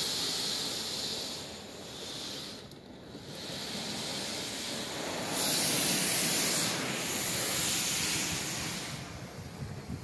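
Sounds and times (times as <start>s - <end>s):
spray jets hissing on car: 0.0s - 10.0s.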